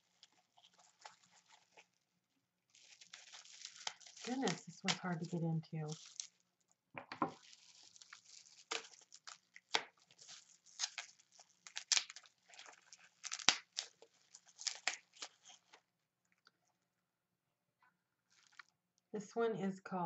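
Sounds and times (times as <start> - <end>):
bubble wrap crinkling: 0.0 - 16.4, 18.3 - 18.8.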